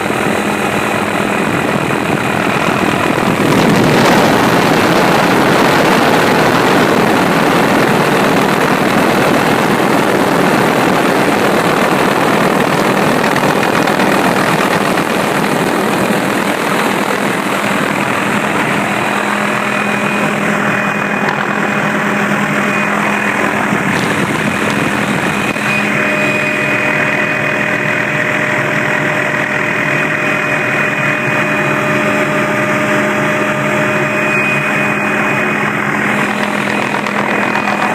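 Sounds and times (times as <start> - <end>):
aircraft engine drone: 0.0 - 37.9
steady hum with held tones: 0.0 - 37.9.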